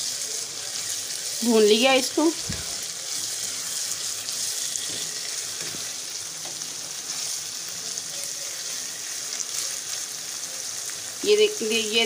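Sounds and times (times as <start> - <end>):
spatula stirring in a pan: 0.0 - 11.2
lentils sizzling in oil: 0.0 - 12.0.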